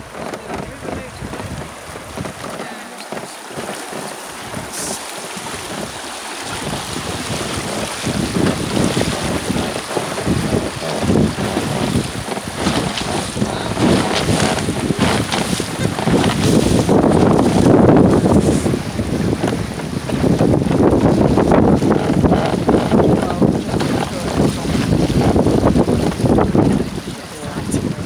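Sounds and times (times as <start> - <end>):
water rushing over rapids: 0.0 - 28.0
wind buffeting microphone: 0.0 - 28.0.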